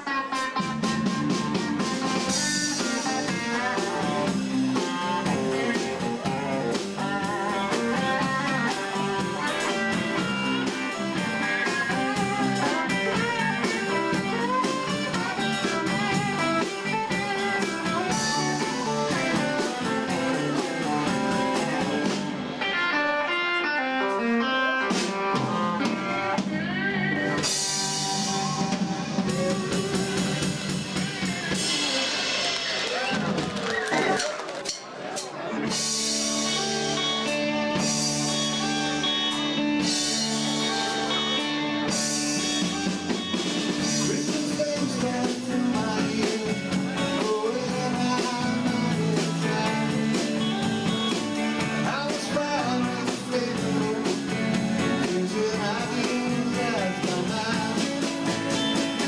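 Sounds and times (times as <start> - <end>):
drum kit beat: 0.0 - 23.4, 24.0 - 59.0
electric guitars: 0.0 - 59.0.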